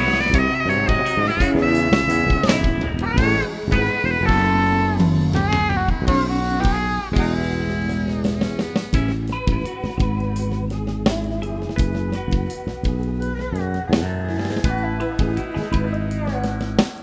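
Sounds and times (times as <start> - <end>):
drum kit: 0.0 - 17.0
lead melody with bending notes: 0.0 - 17.0
steady bass: 0.0 - 17.0.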